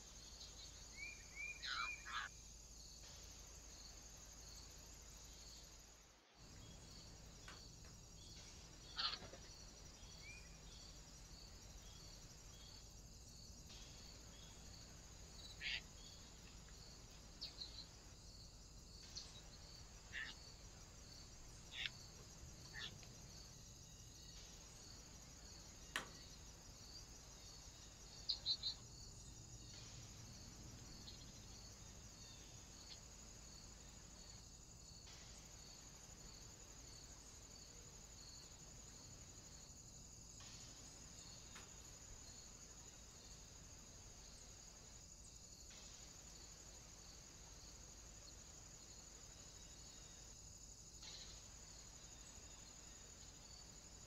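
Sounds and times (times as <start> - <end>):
cricket chirping: 0.0 - 54.0
steady hiss: 2.4 - 54.0.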